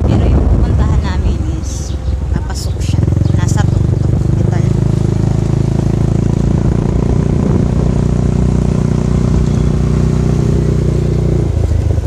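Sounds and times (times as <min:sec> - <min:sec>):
vehicle engine running steadily: 0:00.0 - 0:12.0.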